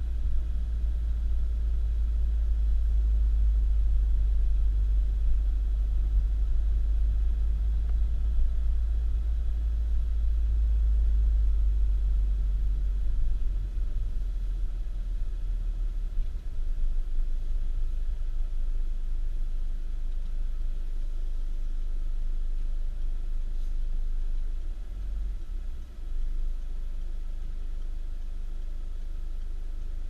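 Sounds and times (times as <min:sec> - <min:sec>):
car rumbling on the move: 0:00.0 - 0:30.0.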